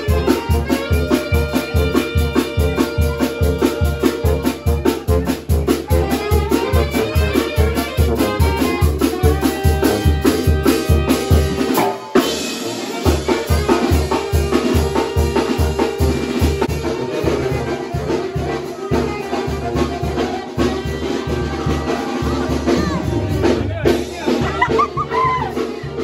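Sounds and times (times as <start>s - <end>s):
live band playing fast dance tune: 0.0s - 26.0s.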